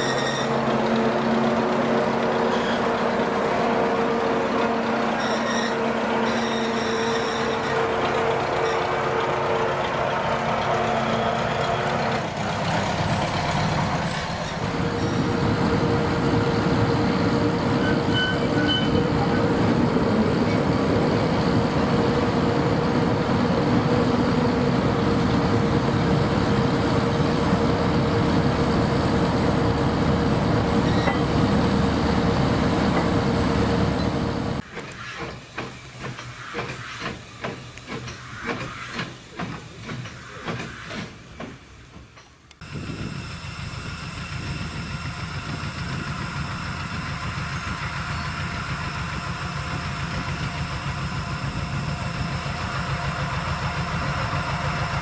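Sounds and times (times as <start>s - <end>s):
train running: 0.0s - 55.0s.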